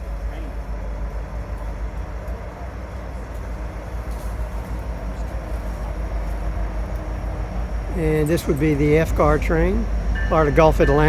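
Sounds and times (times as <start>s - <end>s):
diesel freight train rumbling: 0.0s - 11.0s.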